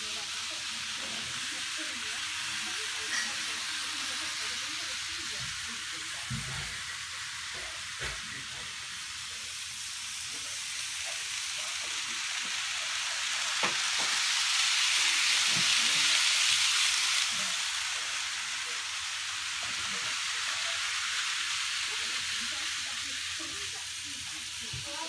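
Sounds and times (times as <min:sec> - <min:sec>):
model trains whirring: 0:00.0 - 0:25.0.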